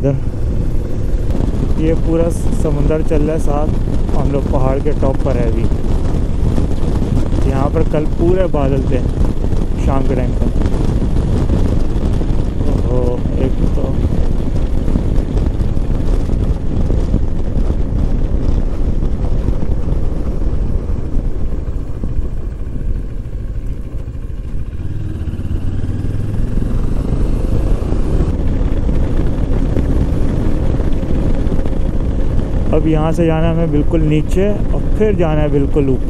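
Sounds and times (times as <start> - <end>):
motorcycle engine running: 0.0 - 36.0
wind noise on microphone: 0.0 - 36.0.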